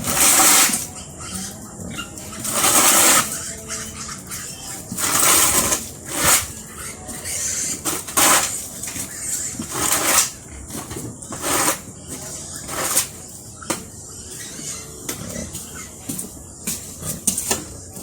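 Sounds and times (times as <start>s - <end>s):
shovel scraping concrete floor: 0.0s - 1.5s, 2.2s - 3.6s, 4.6s - 18.0s.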